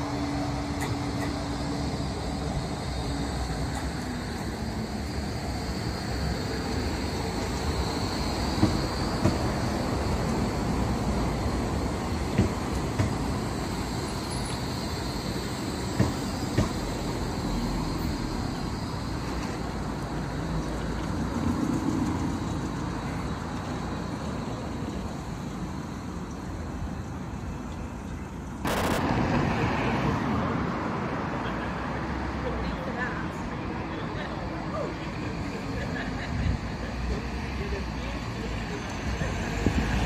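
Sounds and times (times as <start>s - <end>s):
hissy outdoor background: 0.0s - 40.0s
tram rumbling along track: 0.0s - 40.0s.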